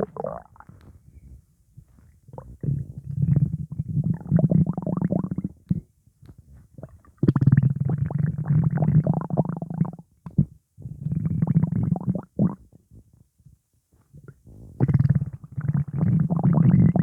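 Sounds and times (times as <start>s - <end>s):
stomach rumbling and gurgling: 0.0s - 17.0s.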